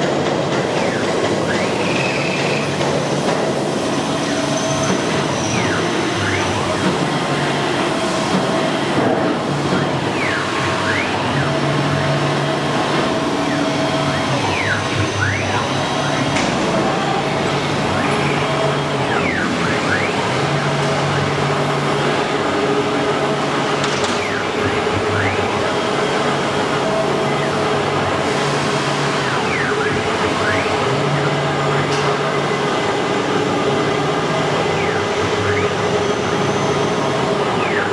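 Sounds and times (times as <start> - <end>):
falling and rising machine whines: 0.0 - 37.9.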